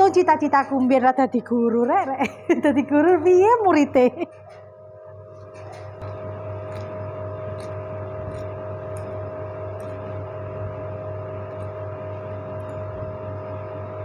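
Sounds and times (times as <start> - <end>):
electrical hum with tone: 0.0 - 14.0.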